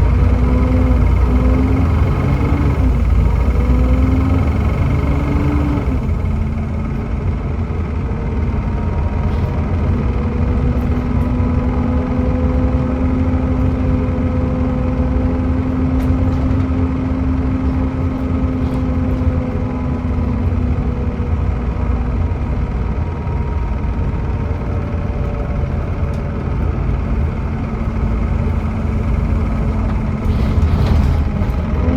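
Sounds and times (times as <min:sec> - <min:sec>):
bus engine rumbling: 0:00.0 - 0:31.9.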